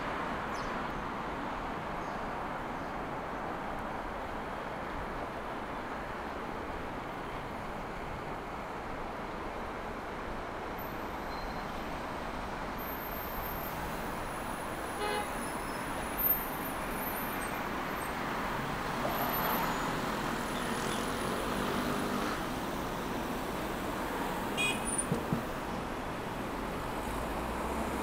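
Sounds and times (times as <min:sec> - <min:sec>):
city road traffic: 0:00.0 - 0:28.0.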